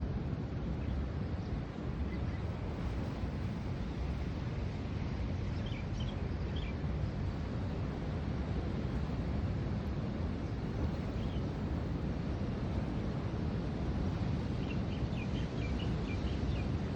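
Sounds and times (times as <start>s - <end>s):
wind buffeting the microphone: 0.0s - 16.9s.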